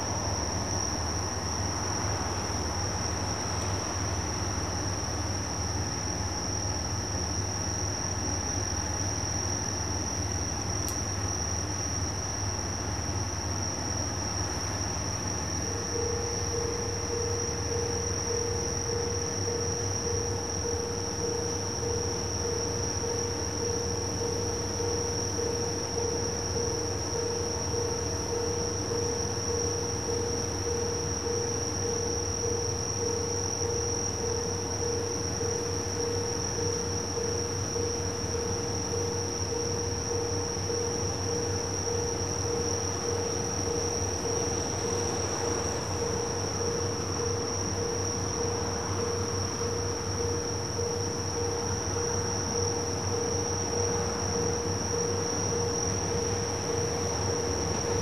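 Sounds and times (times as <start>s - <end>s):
crickets trilling: 0.0s - 58.0s
steady low hum: 0.0s - 58.0s.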